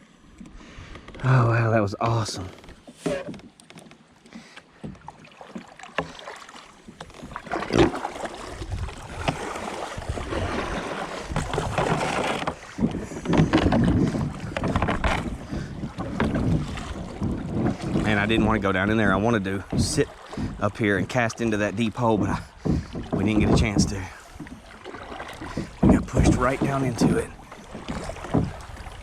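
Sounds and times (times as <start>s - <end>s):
water splashing against kayak hull: 0.0s - 29.0s.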